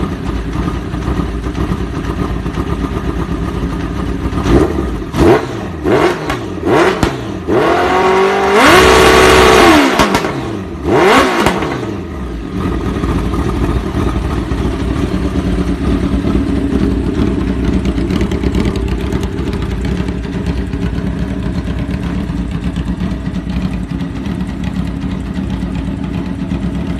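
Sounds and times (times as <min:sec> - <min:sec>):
motorcycle engine revving and idling: 0:00.0 - 0:26.9.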